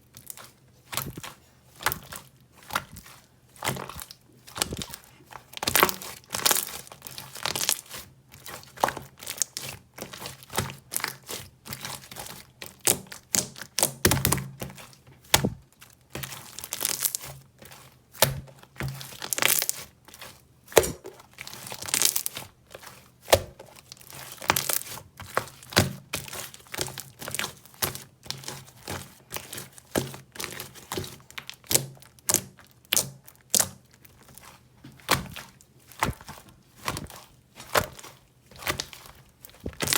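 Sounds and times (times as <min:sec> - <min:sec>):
slime squished by hand: 0:00.1 - 0:39.9.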